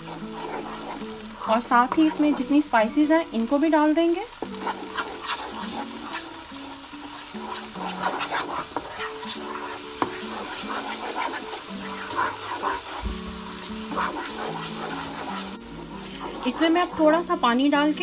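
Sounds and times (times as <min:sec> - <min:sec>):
wooden spoon scraping a pot: 0:00.0 - 0:02.7, 0:04.3 - 0:17.4
food sizzling in oil: 0:00.0 - 0:18.0
simple background melody: 0:00.0 - 0:18.0.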